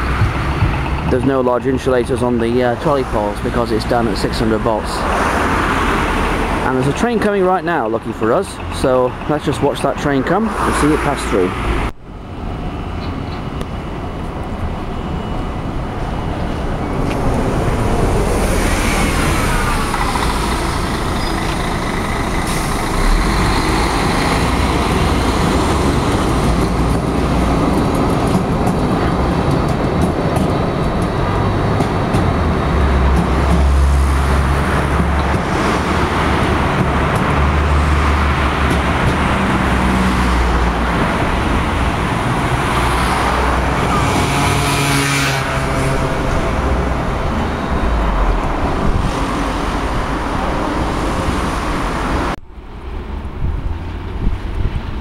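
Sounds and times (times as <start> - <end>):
road traffic: 0.0 - 55.0
tram drive pitch glides: 0.0 - 55.0
tram passing: 0.0 - 55.0.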